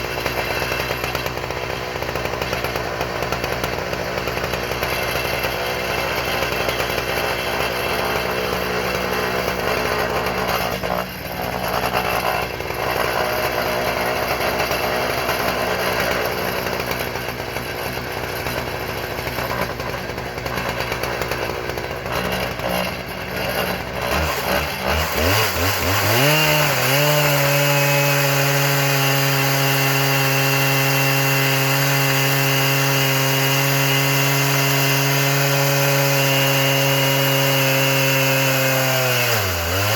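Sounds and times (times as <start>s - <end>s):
chainsaw cutting through wood: 0.0s - 39.9s.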